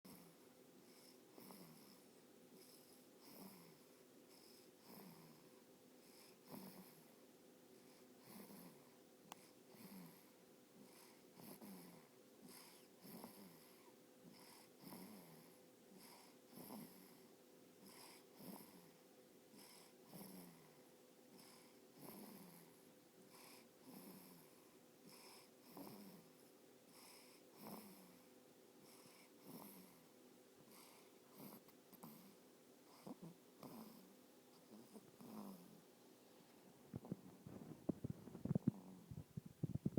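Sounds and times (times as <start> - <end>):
faint snoring: 0.1 - 7.2, 7.8 - 30.1, 30.7 - 35.8, 36.9 - 39.9.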